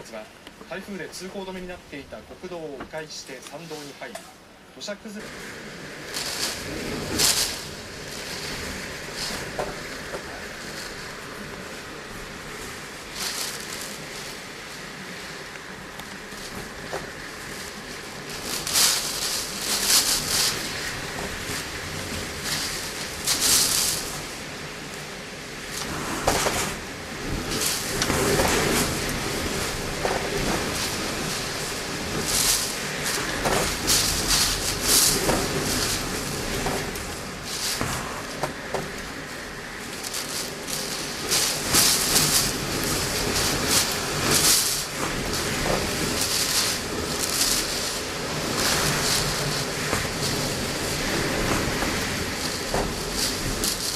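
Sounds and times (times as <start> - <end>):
rain: 0.0 - 53.9
wind gusts: 0.0 - 53.9.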